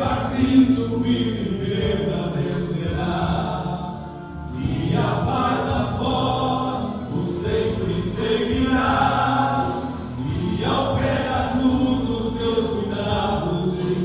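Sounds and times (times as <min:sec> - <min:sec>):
men singing a hymn: 0:00.0 - 0:14.0.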